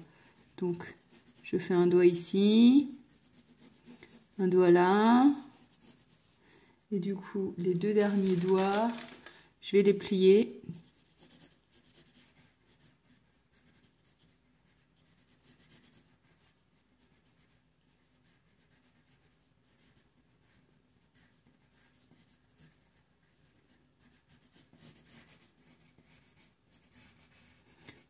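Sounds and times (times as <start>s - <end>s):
pencil scratching on paper: 0.0s - 6.4s, 10.1s - 28.0s.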